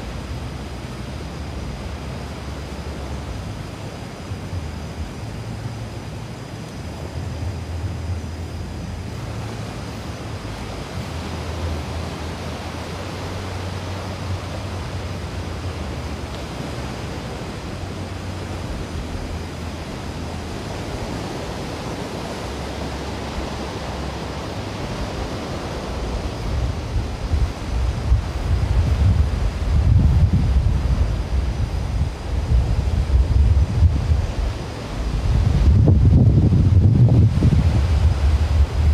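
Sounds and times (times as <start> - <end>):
surf washing on sand beach: 0.0 - 38.9
wind buffeting microphone: 0.0 - 38.9.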